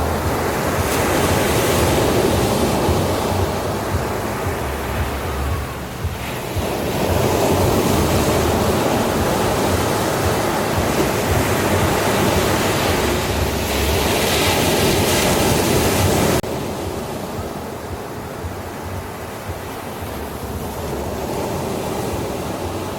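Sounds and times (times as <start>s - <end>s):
ocean waves breaking: 0.0s - 22.9s.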